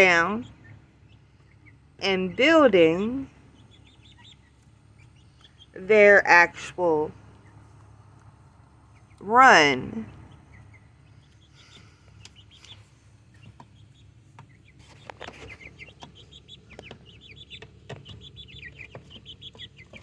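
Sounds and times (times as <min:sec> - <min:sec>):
young chickens peeping and clucking: 0:00.0 - 0:20.0.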